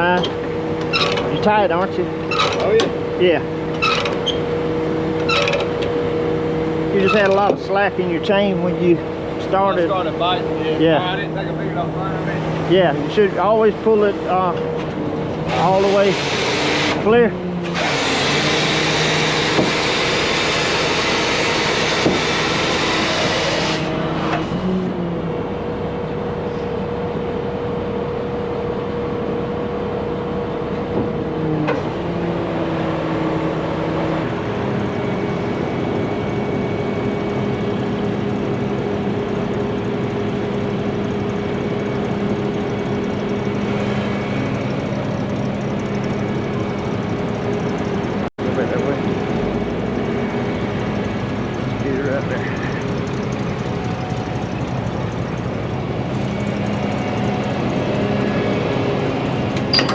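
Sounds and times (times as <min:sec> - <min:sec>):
heavy truck engine running: 0:00.0 - 0:59.9.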